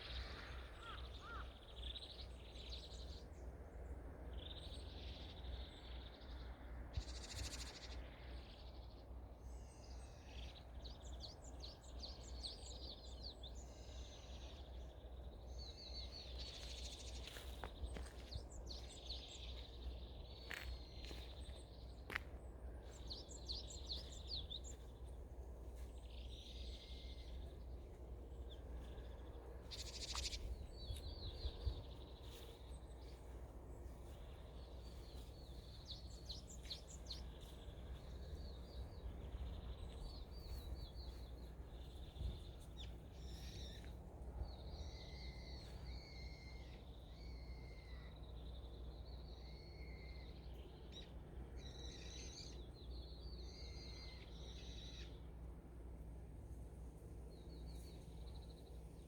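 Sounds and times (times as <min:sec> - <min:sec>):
low rumble of wind: 0:00.0 - 0:59.0
small birds chirping: 0:00.0 - 0:59.0.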